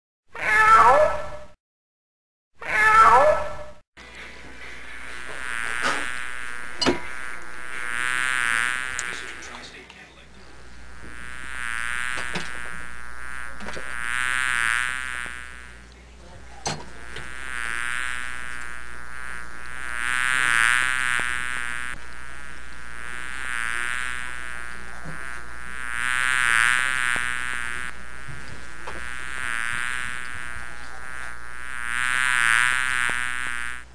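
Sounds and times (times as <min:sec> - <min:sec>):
housefly buzzing: 0:04.5 - 0:09.8, 0:10.4 - 0:15.9, 0:16.5 - 0:33.9.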